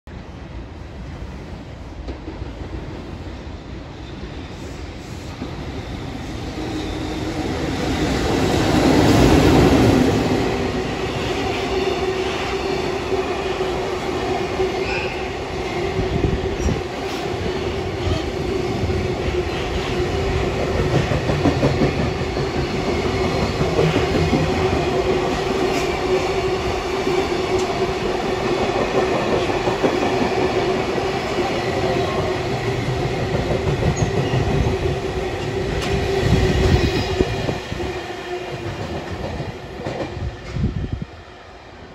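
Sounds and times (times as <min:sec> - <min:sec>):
freight train passing: 0:00.1 - 0:41.9.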